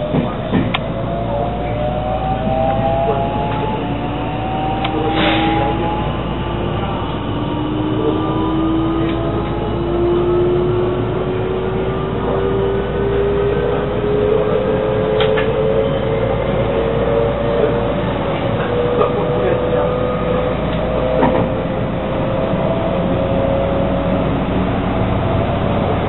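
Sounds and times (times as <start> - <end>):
traction motor whine: 0.0 - 26.0
train wheels rumbling on track: 0.0 - 26.0.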